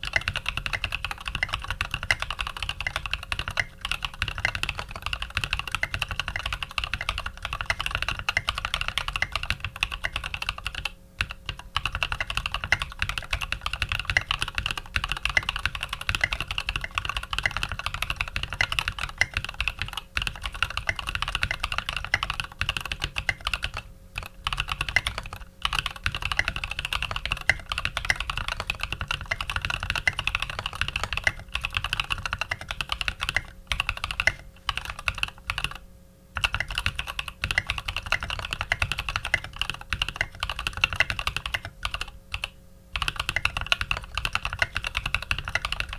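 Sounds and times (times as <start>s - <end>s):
fast typing on mechanical keyboard: 0.0s - 35.8s, 36.4s - 45.9s.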